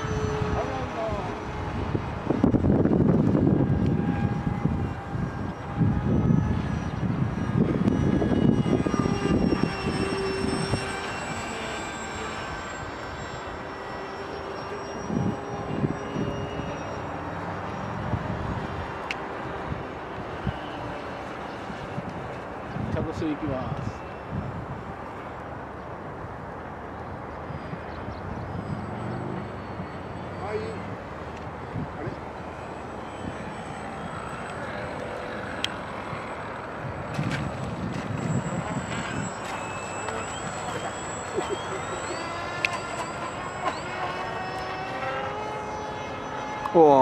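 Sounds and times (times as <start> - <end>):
wind on microphone: 0.0 - 13.9, 14.9 - 26.4, 27.0 - 46.6
model plane motor whine: 0.0 - 47.0.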